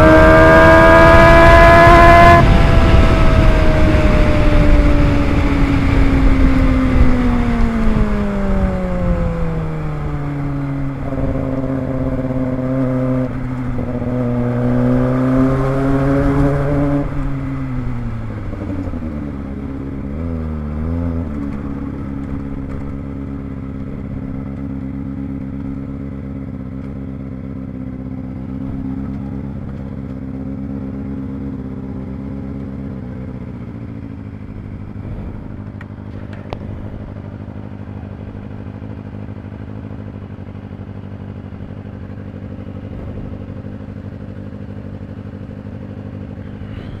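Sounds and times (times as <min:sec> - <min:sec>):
motorcycle engine slowing: 0:00.0 - 0:47.0.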